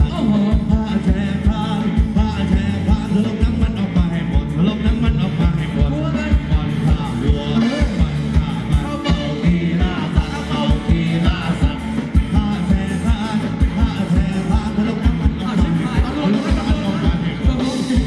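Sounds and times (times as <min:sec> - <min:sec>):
person singing: 0:00.0 - 0:18.0
steady drum beat: 0:00.0 - 0:18.0.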